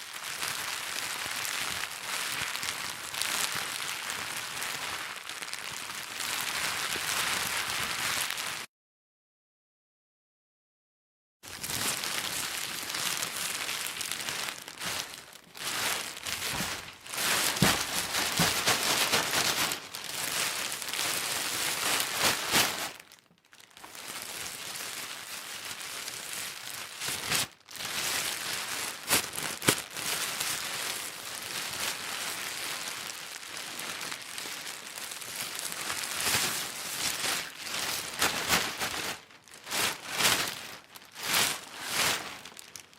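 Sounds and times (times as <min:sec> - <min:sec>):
plastic bag crinkling: 0:00.0 - 0:08.7, 0:11.5 - 0:42.9.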